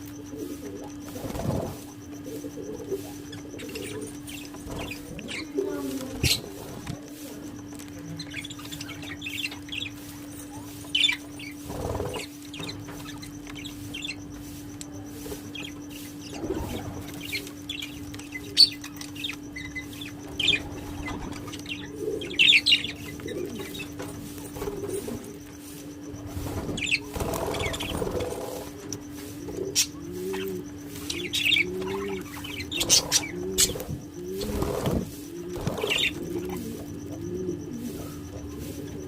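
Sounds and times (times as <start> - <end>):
parrots chirping: 0.0 - 39.0
steady low hum: 0.0 - 39.0
wings fluttering: 0.0 - 39.0.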